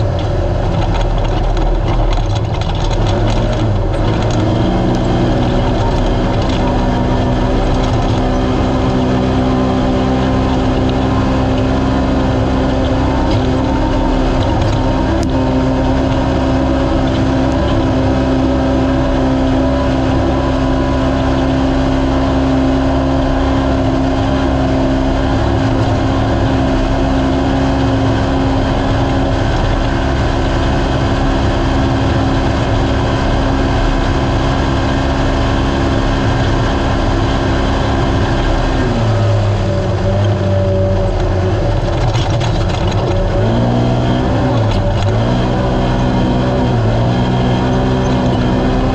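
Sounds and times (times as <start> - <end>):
race vehicle engine revving: 0.0 - 48.9.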